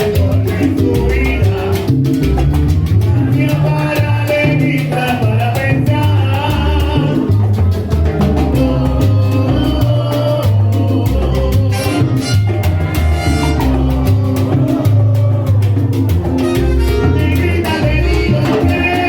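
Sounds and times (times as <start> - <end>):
driving bass line: 0.0 - 19.0
percussion strikes: 0.0 - 19.0
salsa band playing: 0.0 - 19.0.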